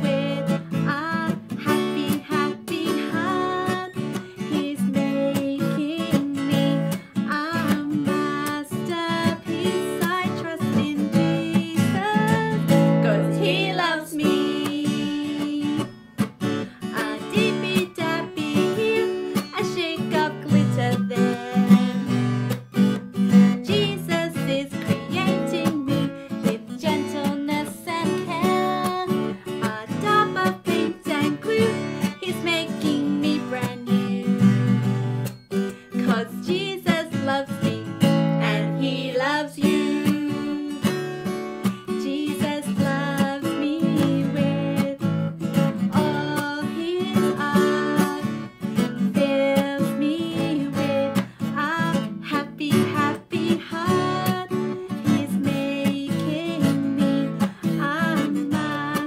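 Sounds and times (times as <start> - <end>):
acoustic guitar strumming: 0.0 - 59.0
woman singing: 0.0 - 59.0.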